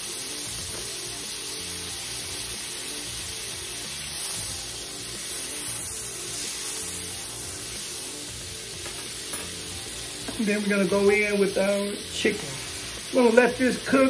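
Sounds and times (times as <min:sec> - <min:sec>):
background music: 0:00.0 - 0:14.0
butter sizzling in a hot skillet: 0:00.0 - 0:14.0.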